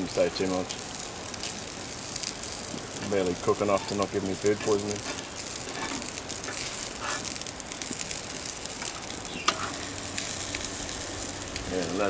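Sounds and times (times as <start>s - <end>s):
fish skins sizzling and popping: 0.0s - 12.0s.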